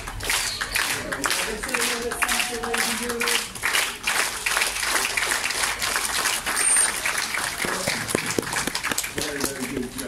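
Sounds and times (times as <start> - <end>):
audience clapping along: 0.0 - 10.0.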